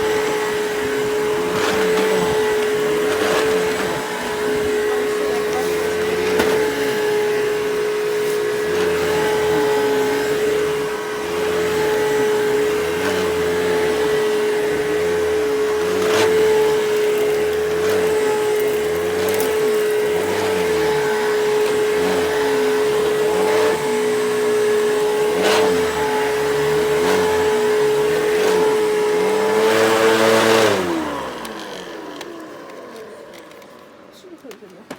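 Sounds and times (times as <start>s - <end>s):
vacuum motor winding down: 0.0s - 34.6s
vacuum cleaner running: 0.0s - 34.9s.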